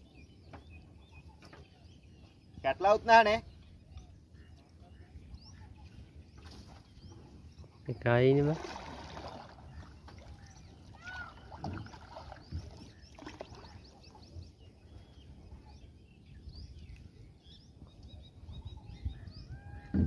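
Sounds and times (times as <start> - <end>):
birds chirping and whistling: 0.0 - 8.0, 9.5 - 20.0.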